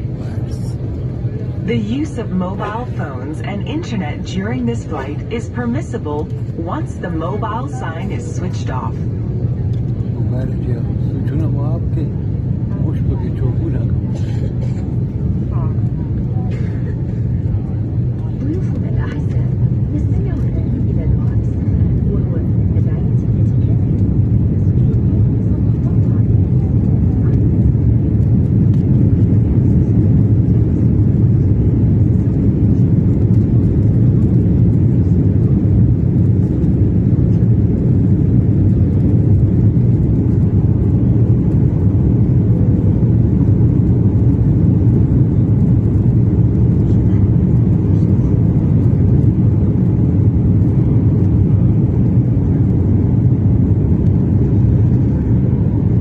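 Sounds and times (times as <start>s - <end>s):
jet engine rumble in cabin: 0.0s - 56.0s.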